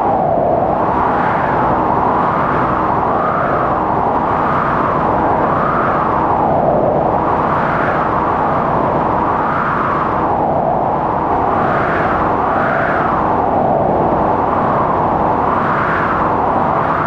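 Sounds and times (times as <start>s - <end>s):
blizzard wind howling: 0.0s - 17.0s.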